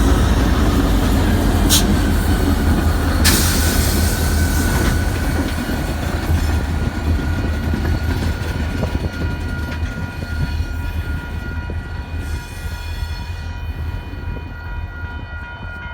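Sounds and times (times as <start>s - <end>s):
diesel locomotives rumbling: 0.0s - 15.9s.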